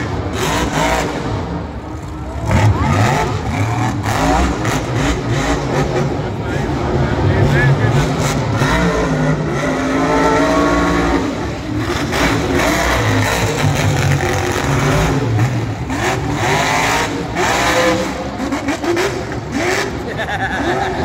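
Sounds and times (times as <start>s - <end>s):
monster truck engines revving: 0.0s - 21.0s.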